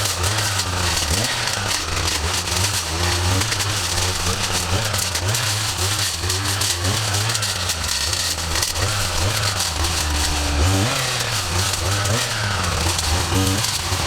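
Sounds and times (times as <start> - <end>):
yard equipment engine drone: 0.0 - 14.0.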